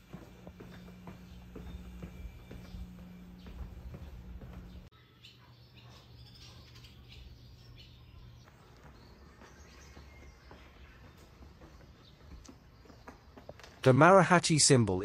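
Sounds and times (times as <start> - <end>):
faint bird chirps: 0.7 - 13.6.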